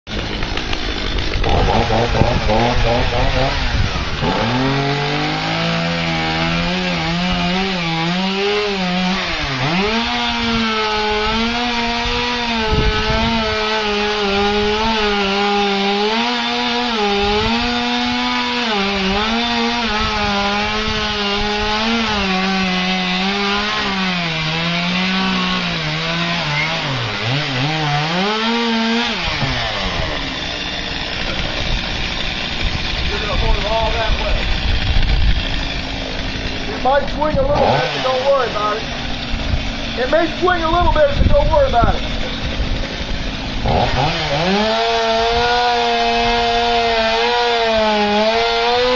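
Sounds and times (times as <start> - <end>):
chainsaw cutting a tree: 0.1 - 48.9.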